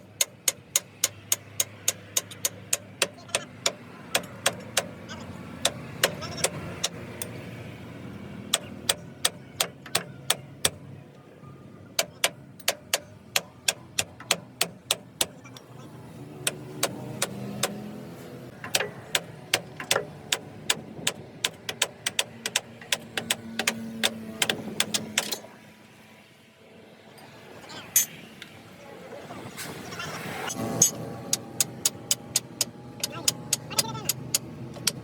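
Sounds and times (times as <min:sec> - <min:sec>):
engine running: 0:00.0 - 0:26.0, 0:26.6 - 0:35.0.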